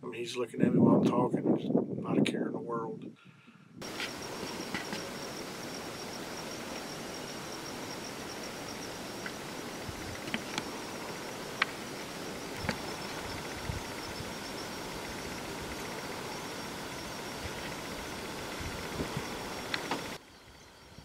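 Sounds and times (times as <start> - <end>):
high-pitched insect trill: 3.8 - 21.0
outdoor hiss: 3.8 - 21.0.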